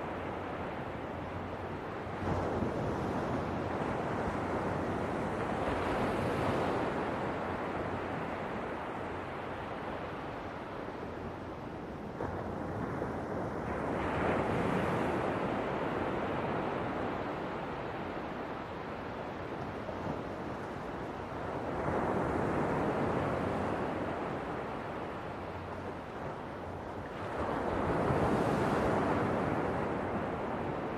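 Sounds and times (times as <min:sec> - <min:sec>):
ocean waves washing ashore: 0:00.0 - 0:30.9.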